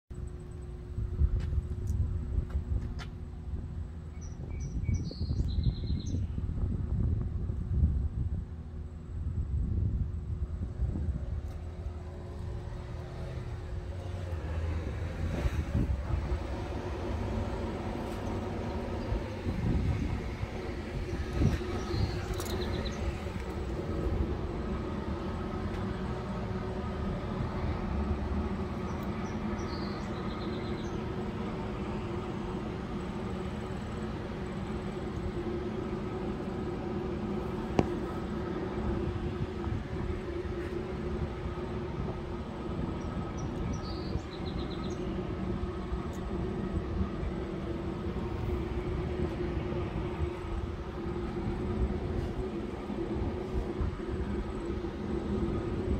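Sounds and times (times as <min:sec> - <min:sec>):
low mechanical hum and rumble: 0:00.1 - 0:55.9.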